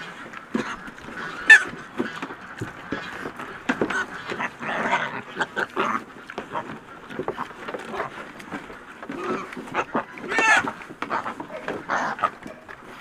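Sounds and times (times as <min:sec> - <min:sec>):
pigs chewing and snuffling: 0:00.0 - 0:13.0.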